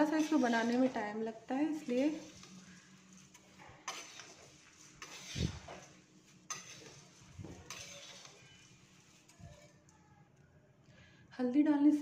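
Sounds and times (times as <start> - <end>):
spatula scraping metal pan: 0.0 - 9.8.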